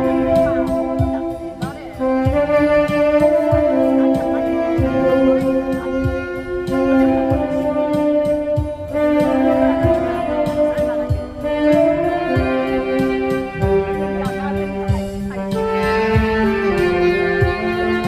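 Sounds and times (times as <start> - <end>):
backing track with low beat: 0.0 - 18.0
tenor saxophone melody: 0.0 - 18.0.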